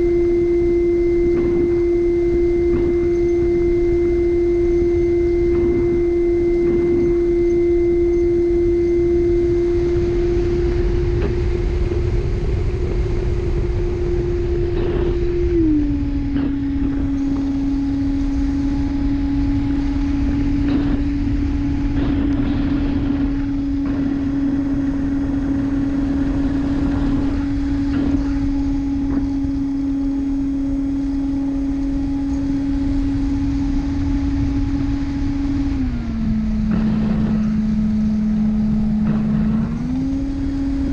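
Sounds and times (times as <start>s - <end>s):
electric ducted fan whine: 0.0s - 40.9s
wind noise: 0.0s - 40.9s.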